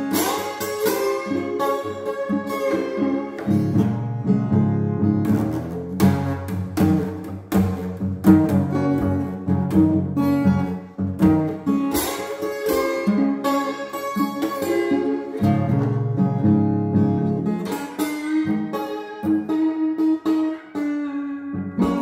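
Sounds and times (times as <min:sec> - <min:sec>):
slide blues acoustic guitar: 0:00.0 - 0:22.0.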